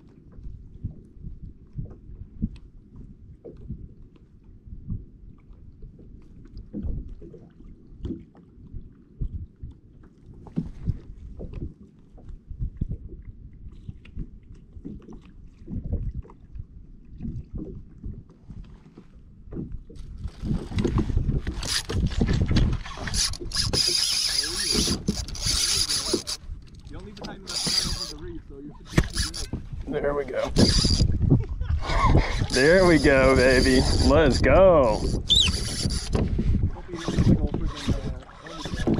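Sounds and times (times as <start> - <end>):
waves lapping against kayak hull: 0.0 - 38.9.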